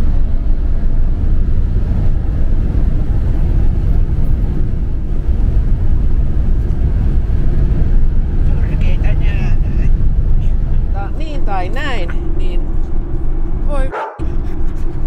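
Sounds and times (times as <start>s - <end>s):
engine low rumble: 0.0s - 15.0s
tyres on wet road: 0.0s - 15.0s.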